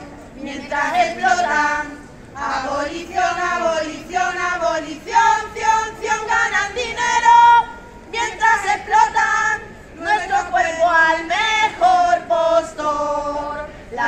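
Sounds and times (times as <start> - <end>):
women singing together: 0.0 - 14.0.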